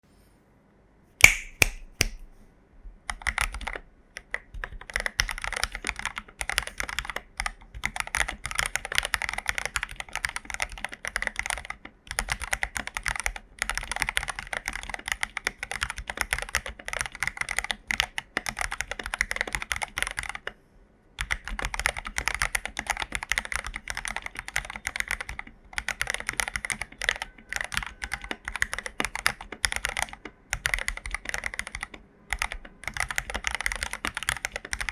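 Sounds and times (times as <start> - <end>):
mechanical keyboard typing: 3.1 - 20.6, 21.2 - 34.9.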